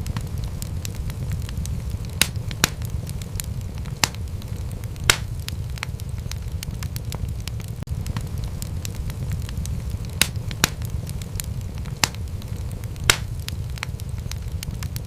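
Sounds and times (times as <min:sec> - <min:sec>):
rumble of flames: 0:00.0 - 0:15.0
wood fire crackling: 0:00.0 - 0:15.0.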